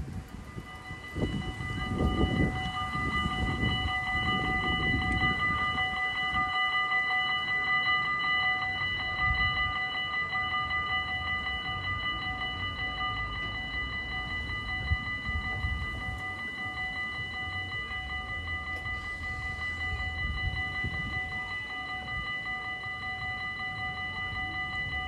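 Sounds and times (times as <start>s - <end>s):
level crossing warning bells: 0.0s - 25.0s.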